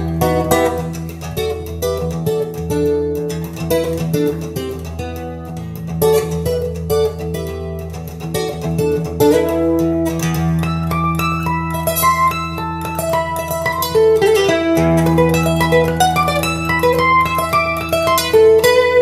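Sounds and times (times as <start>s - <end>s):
guitar notes: 0.0s - 19.0s.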